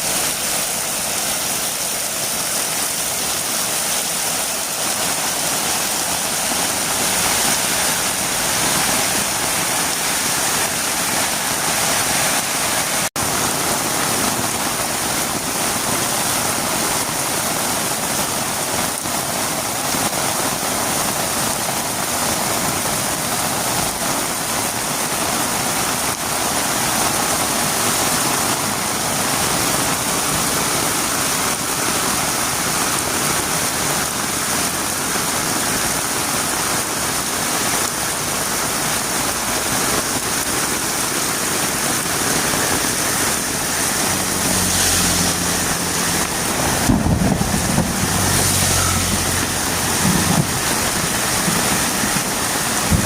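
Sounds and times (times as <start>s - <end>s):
heavy rain on a road: 0.0s - 53.0s.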